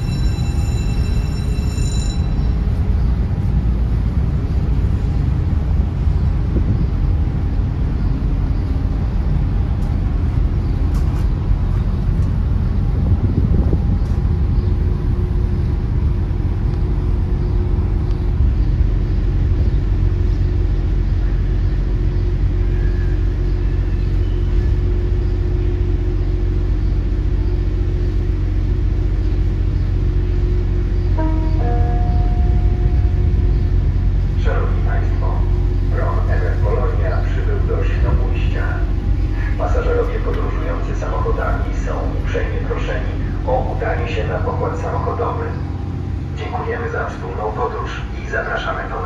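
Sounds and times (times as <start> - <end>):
ferry engines rumbling: 0.0 - 49.0
steady hum: 2.6 - 49.0.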